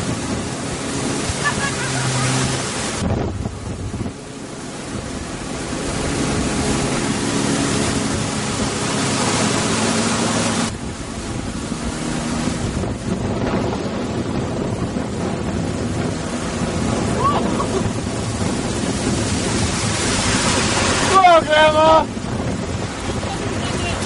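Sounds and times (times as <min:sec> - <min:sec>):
boat engine droning: 0:00.0 - 0:24.0
water rushing past boat: 0:00.0 - 0:24.0
wind buffeting microphone: 0:00.0 - 0:24.0.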